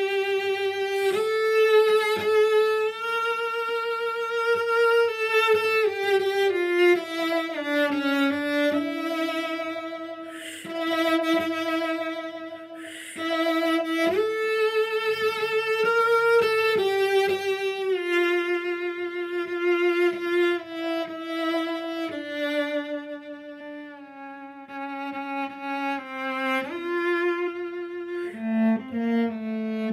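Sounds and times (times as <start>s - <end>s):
solo cello melody: 0.0s - 29.9s.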